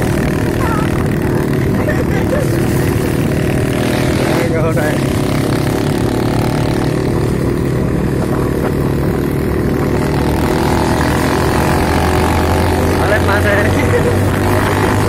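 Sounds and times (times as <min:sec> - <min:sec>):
motorcycle engine running: 0:00.0 - 0:15.0
road noise: 0:00.0 - 0:15.0
wind noise: 0:00.0 - 0:15.0.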